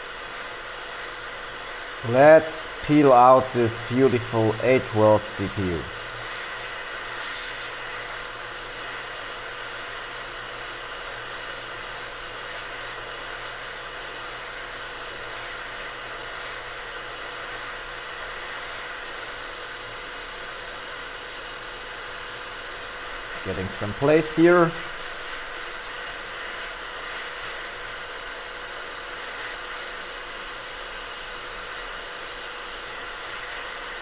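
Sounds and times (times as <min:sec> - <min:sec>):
hot air nozzle hissing: 0:00.0 - 0:19.4, 0:22.0 - 0:34.0.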